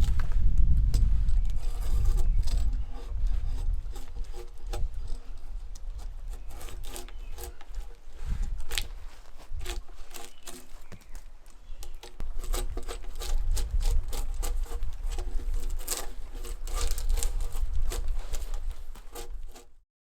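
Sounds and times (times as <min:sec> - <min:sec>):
tool scraping bark off log: 0:00.0 - 0:19.8.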